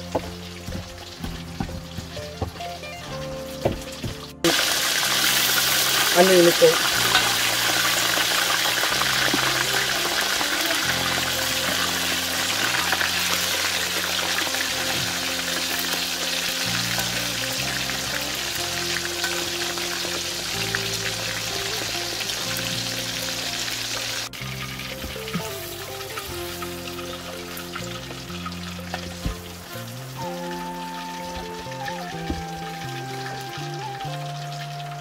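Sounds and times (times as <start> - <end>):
fish sizzling in hot oil: 0.0 - 35.0.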